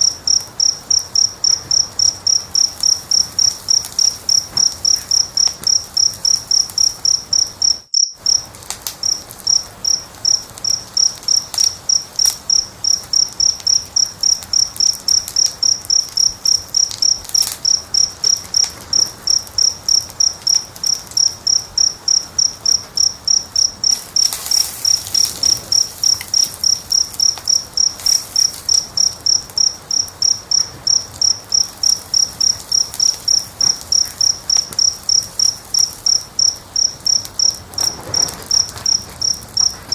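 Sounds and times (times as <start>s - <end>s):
cricket chirping: 0.0s - 39.9s
wood fire crackling: 0.0s - 39.9s.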